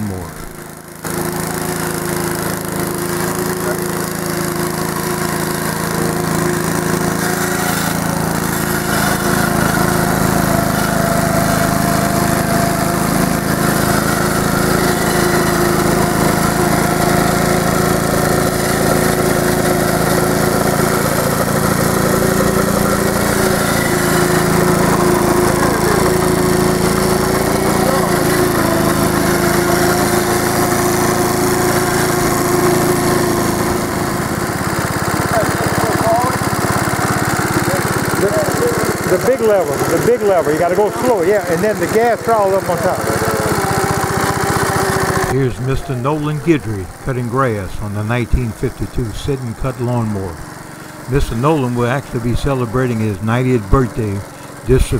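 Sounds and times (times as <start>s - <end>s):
riding lawnmower engine running: 0.0s - 54.9s.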